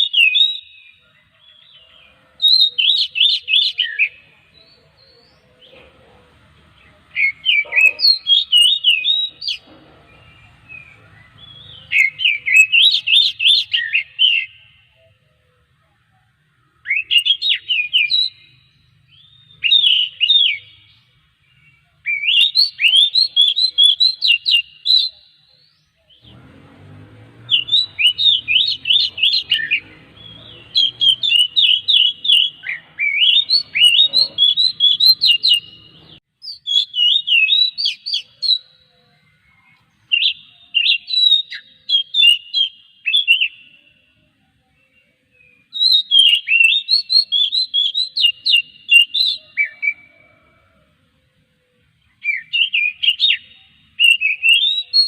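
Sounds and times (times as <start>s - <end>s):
bird singing whistled phrases: 0.0s - 4.3s, 7.2s - 14.6s, 16.8s - 20.8s, 21.5s - 26.2s, 27.5s - 35.8s, 36.4s - 43.8s, 44.8s - 50.4s, 52.2s - 55.0s.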